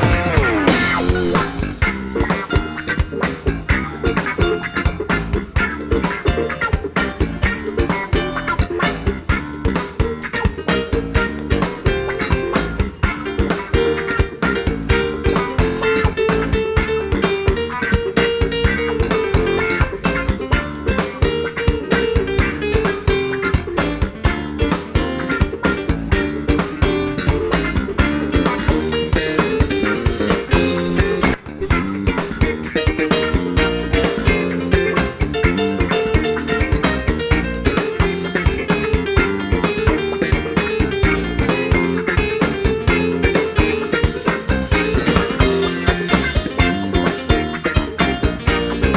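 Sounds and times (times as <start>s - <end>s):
bass guitar: 0.0s - 48.9s
drum kit: 0.0s - 48.9s
electric guitar leading: 0.0s - 48.9s.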